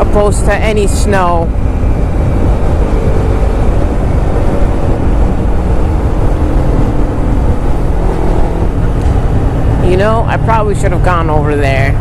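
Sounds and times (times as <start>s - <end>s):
wind and road noise: 0.0s - 12.0s
motorcycle engine running: 1.4s - 11.3s.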